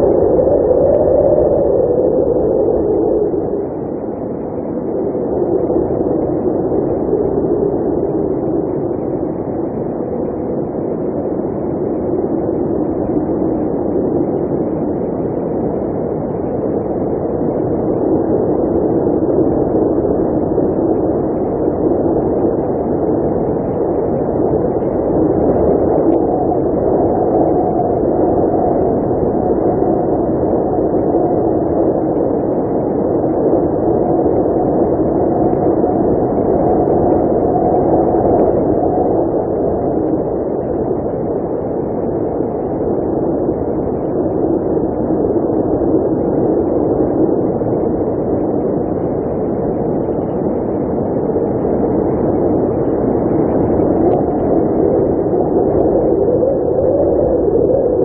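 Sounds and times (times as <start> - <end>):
blizzard wind rushing: 0.0 - 58.0
faint high wind whistle: 0.0 - 58.0.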